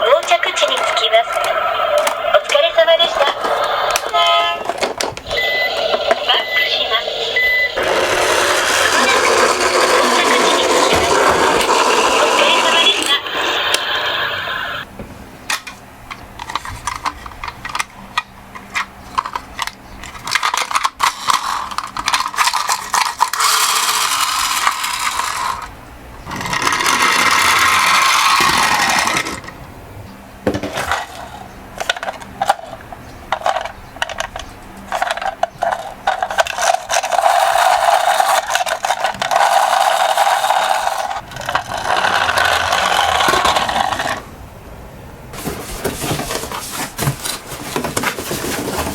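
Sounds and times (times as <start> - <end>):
toy car wheels rumbling: 0.0 - 6.2, 7.8 - 14.1, 16.4 - 29.6, 30.6 - 44.3.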